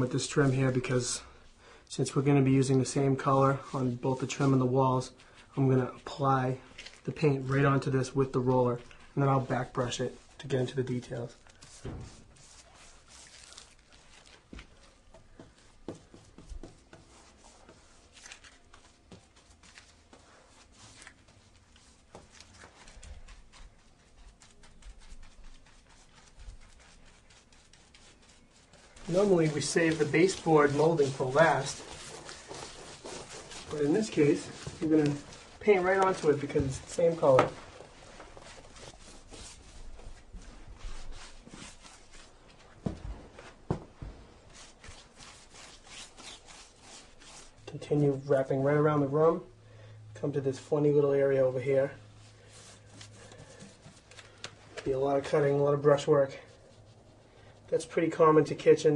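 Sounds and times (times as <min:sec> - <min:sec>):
paintbrush strokes on wall: 0:00.0 - 0:49.4, 0:50.3 - 0:58.9.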